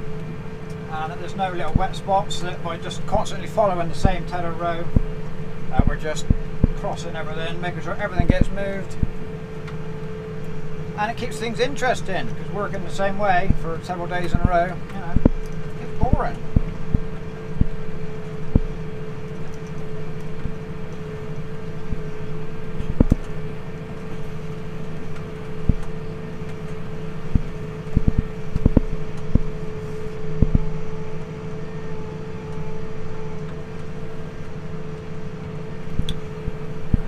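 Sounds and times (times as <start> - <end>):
tractor engine droning: 0.0 - 37.0.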